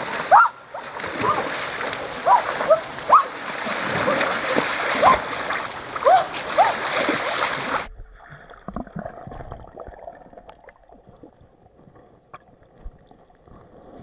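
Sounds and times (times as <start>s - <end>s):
splashing in a stream: 0.0s - 14.0s.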